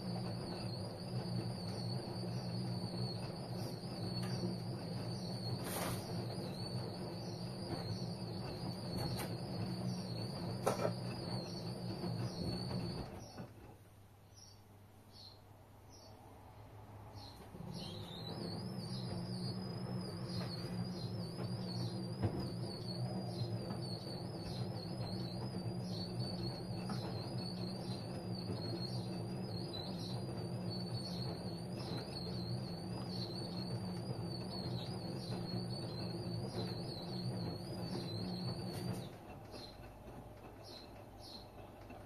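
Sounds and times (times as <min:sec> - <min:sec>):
washing machine motor whine: 0:00.0 - 0:13.8, 0:16.4 - 0:42.0.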